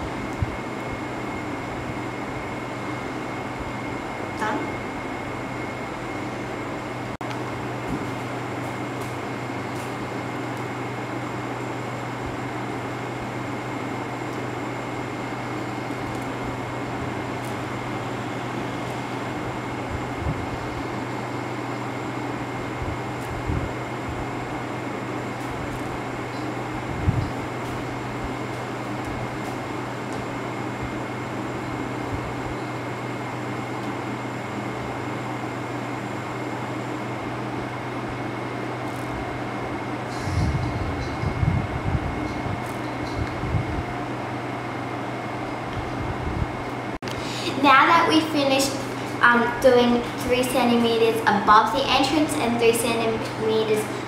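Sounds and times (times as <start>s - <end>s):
steady hum and hiss: 0.0s - 54.0s
thin constant whine: 0.0s - 54.0s.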